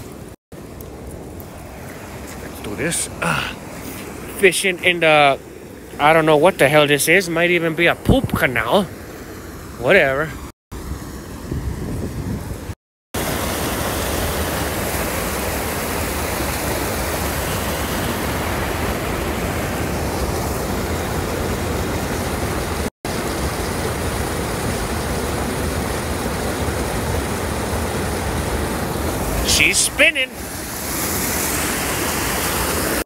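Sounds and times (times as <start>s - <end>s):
water rushing through canal gate: 0.0s - 9.2s, 13.2s - 33.0s.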